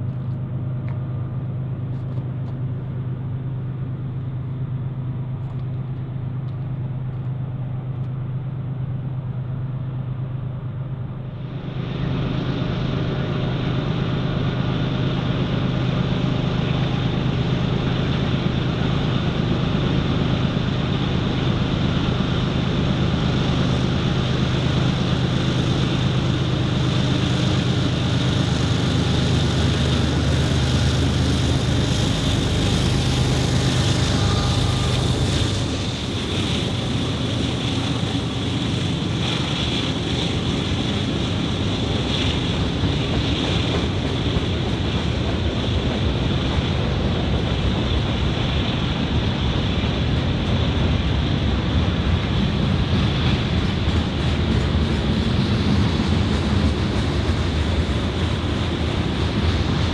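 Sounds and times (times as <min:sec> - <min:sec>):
diesel locomotive drone: 0:00.0 - 0:59.9
train rolling noise: 0:00.0 - 0:59.9.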